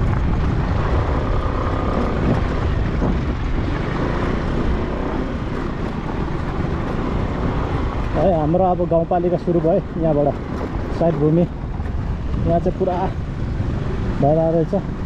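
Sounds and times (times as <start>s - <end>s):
vehicle driving on dirt road: 0.0s - 15.0s
vehicle engine rumbling: 0.0s - 15.0s.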